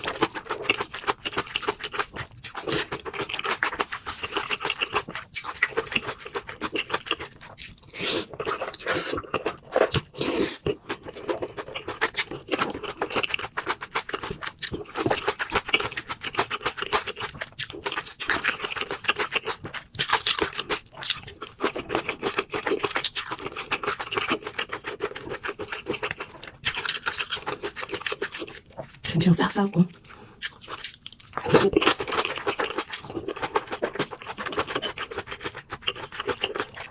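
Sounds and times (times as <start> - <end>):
person chewing and crunching: 0.0 - 29.2, 29.9 - 36.9.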